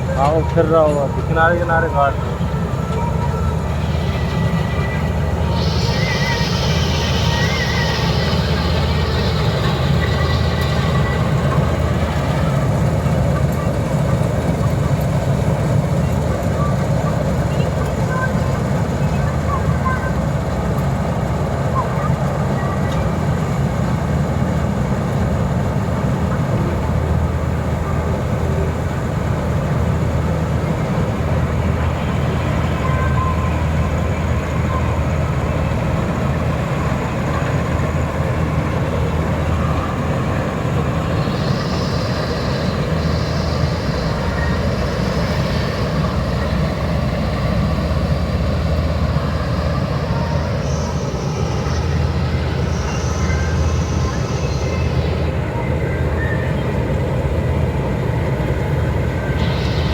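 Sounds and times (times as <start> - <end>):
diesel engine drone: 0.0 - 59.9
high whine: 0.0 - 59.9.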